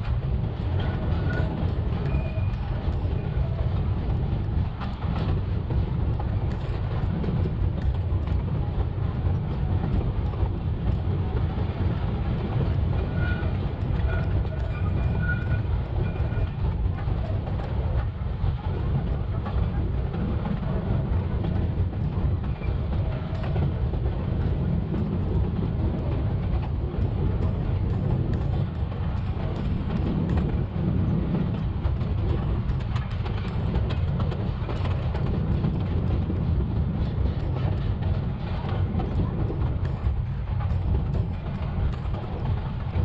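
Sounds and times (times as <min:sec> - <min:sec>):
railway car wheels rumbling on rail: 0:00.0 - 0:43.0.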